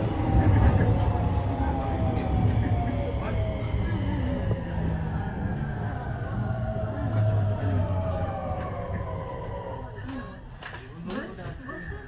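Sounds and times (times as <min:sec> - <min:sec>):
electric train motors whining: 0:00.0 - 0:10.2
train running gear rumble: 0:00.0 - 0:10.4.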